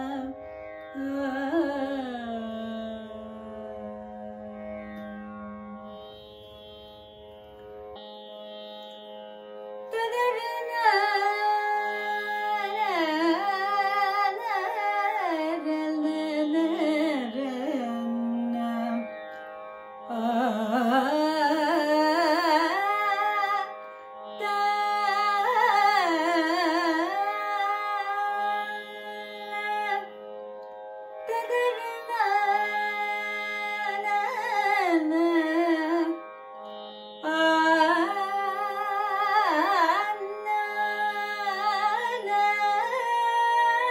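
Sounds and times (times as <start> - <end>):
woman singing classical music: 0.0 - 5.9, 9.9 - 19.2, 20.0 - 30.2, 31.2 - 36.3, 37.2 - 43.9.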